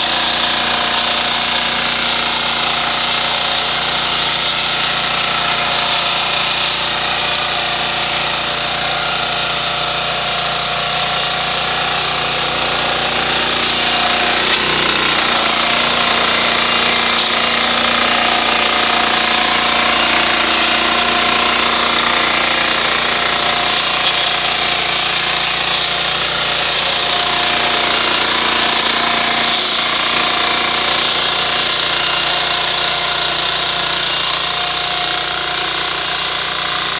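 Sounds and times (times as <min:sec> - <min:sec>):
mower cutting weeds: 0:00.0 - 0:36.9
small tractor engine running: 0:00.0 - 0:36.9.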